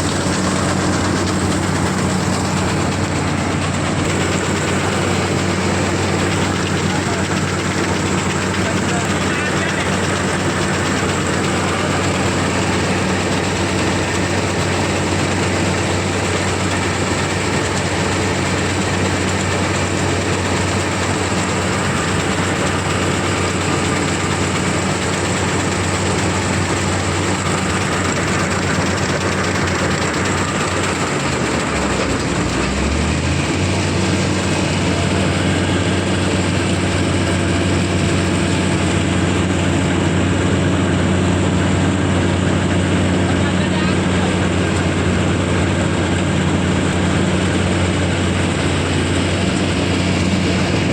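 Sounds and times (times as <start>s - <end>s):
diesel engine running under load: 0.0s - 50.9s
machinery noise: 0.0s - 50.9s.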